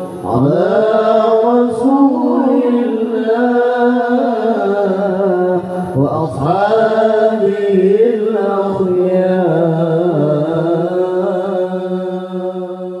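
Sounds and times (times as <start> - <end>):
man chanting through microphone: 0.0 - 13.0.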